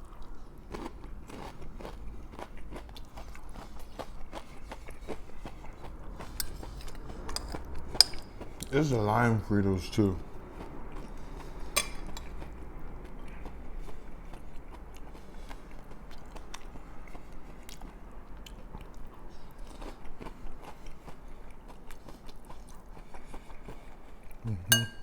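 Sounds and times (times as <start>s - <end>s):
chewing crunchy food: 0.0s - 24.8s.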